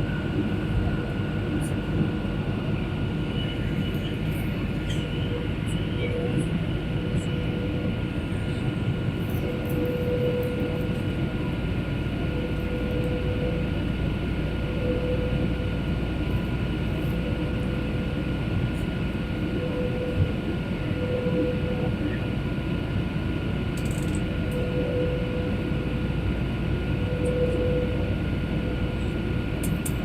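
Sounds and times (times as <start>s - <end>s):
airliner engine and airflow drone: 0.0s - 30.0s.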